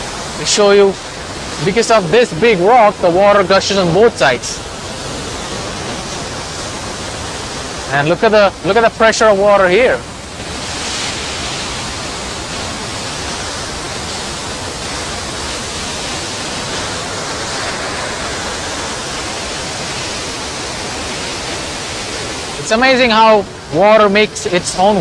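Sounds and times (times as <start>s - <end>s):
waterfall gushing: 0.0s - 25.0s.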